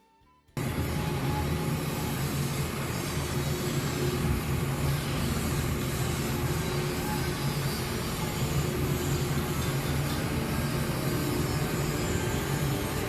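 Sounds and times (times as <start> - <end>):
vehicle engine hum: 0.6 - 13.0.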